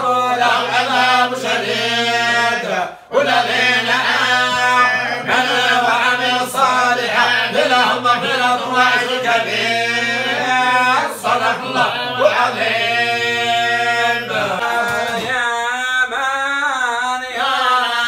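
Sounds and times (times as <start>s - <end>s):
men chanting in unison: 0.0s - 18.0s.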